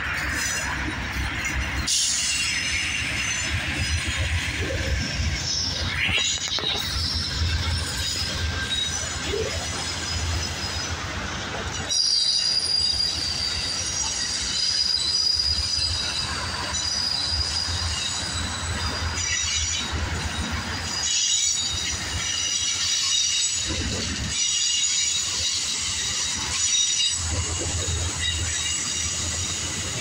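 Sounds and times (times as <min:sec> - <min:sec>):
steel wheels squealing on rails: 0:00.0 - 0:30.0
train cars rolling past: 0:00.0 - 0:30.0.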